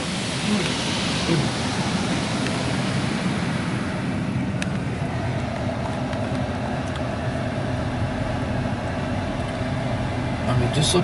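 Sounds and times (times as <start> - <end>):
air dryer blowing on car: 0.0 - 11.0.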